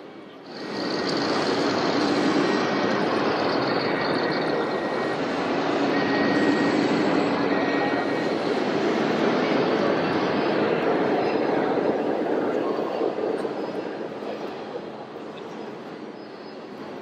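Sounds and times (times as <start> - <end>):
model truck engines rumbling: 0.0 - 17.0.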